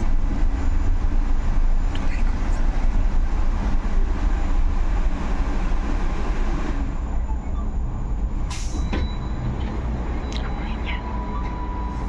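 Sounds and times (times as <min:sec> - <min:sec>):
bus interior rumble: 0:00.0 - 0:12.0.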